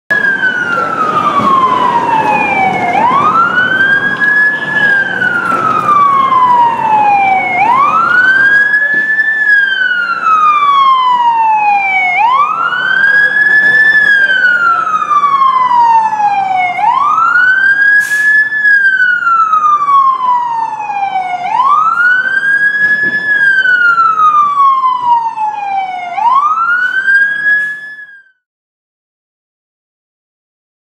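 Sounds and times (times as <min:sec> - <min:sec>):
fire engine siren wailing: 0:00.1 - 0:28.5.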